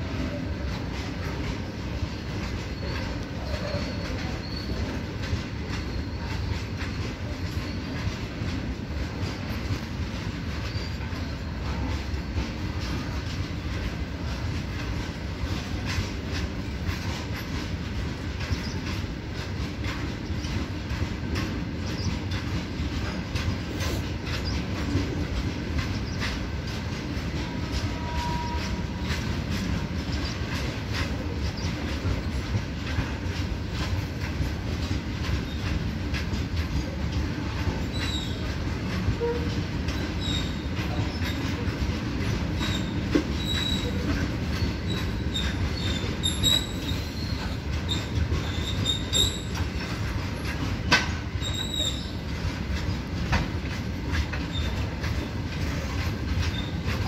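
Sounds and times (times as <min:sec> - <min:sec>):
train wheels rumbling on rail: 0:00.0 - 0:57.0
wheels clicking over rail joints: 0:00.0 - 0:57.0.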